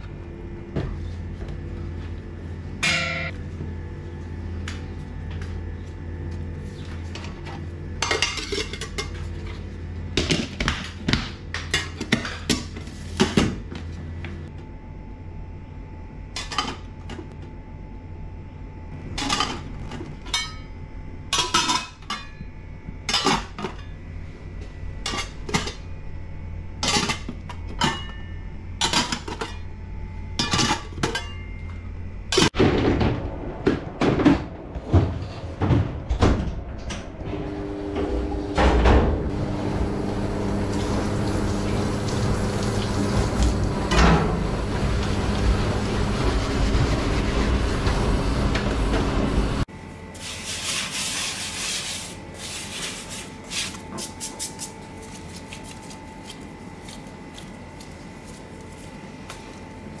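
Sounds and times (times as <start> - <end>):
steady hum with held tones: 0.0 - 13.0, 13.7 - 50.5.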